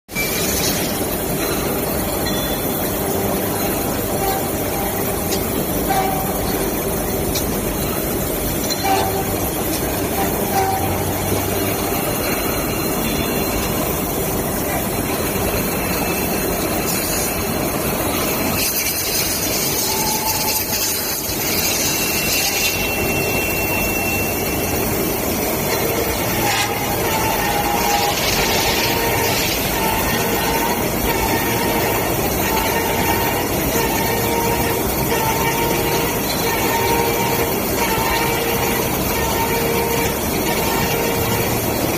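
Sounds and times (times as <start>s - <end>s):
grinding machine on metal: 0.1s - 41.9s.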